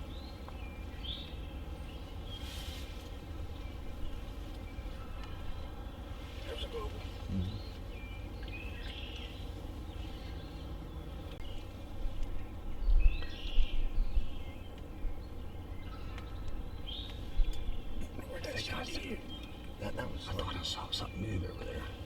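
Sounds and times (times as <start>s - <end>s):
wild birds chirping: 0.0s - 22.0s.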